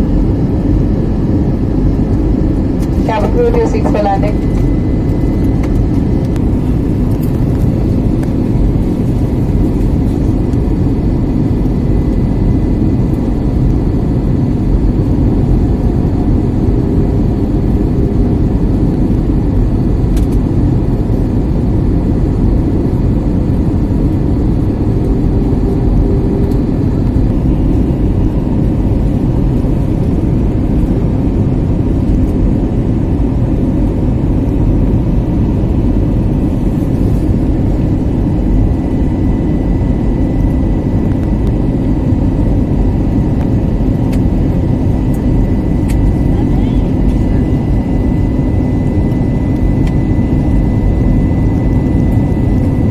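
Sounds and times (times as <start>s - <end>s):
jet engine and airflow rush: 0.0s - 52.9s.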